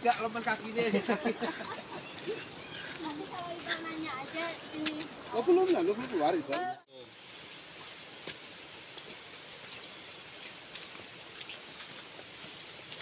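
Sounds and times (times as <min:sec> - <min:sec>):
insect chorus shrill drone: 0:00.0 - 0:13.0.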